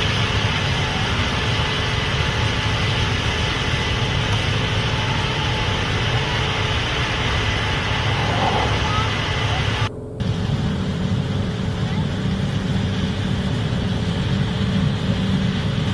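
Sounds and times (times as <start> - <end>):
combine engine drone: 0.0 - 15.9
threshing and fans hiss: 0.0 - 15.9.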